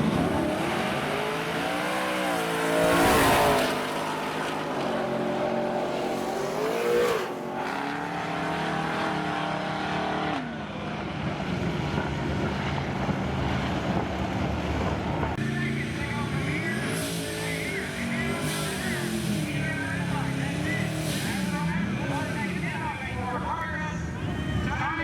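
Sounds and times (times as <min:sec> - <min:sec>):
truck engine revving hard: 0:00.0 - 0:24.9.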